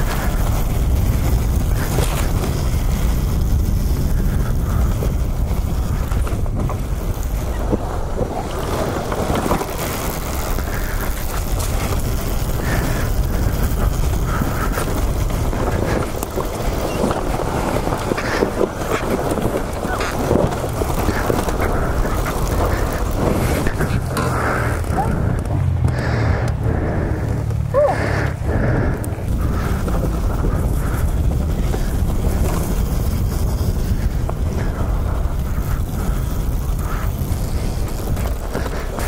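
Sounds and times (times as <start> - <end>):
dirt bike engine running: 0.0 - 39.0
wind buffeting microphone: 0.0 - 39.0.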